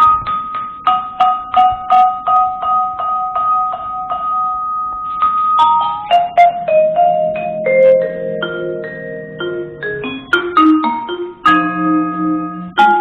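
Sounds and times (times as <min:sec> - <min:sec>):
tuned mallet percussion: 0:00.0 - 0:13.0.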